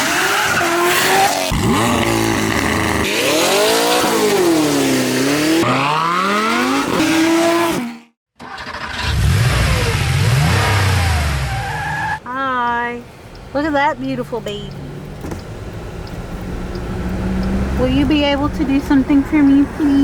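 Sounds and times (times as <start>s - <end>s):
supercar engines revving: 0.0s - 12.1s, 13.2s - 20.0s.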